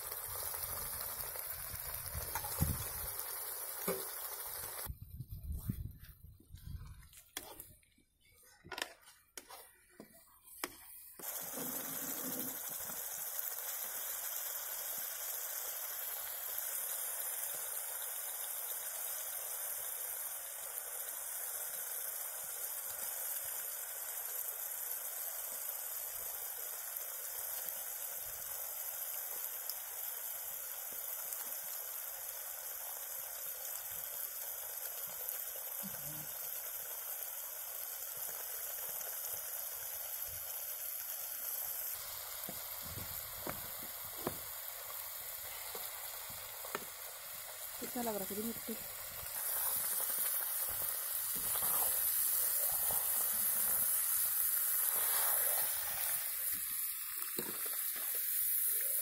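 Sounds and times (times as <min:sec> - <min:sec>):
chicken frying sizzle: 0:00.0 - 0:05.2, 0:07.1 - 0:59.0.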